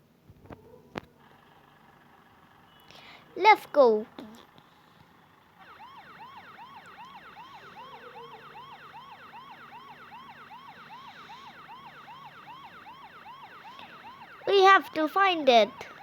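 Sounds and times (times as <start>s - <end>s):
police siren yelping: 1.1s - 16.0s.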